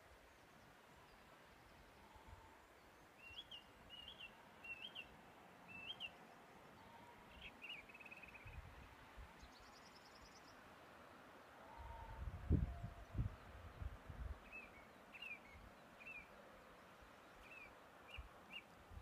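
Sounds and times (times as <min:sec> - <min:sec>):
open-air hiss: 0:00.0 - 0:19.0.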